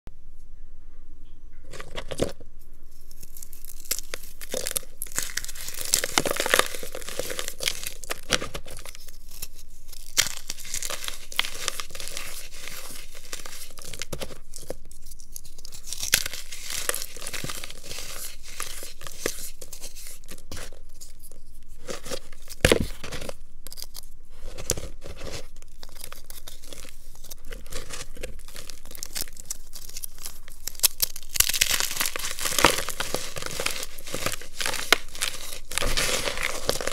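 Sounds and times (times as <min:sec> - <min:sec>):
crumbly blocks crunching: 0:01.7 - 0:36.9.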